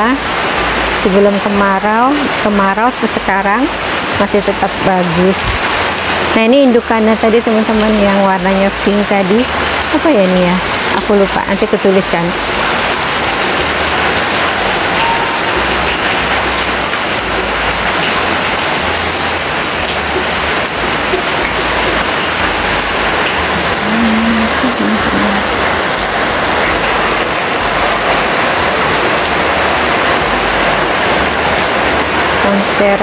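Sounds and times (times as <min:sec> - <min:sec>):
rain on a corrugated roof: 0:00.0 - 0:33.0.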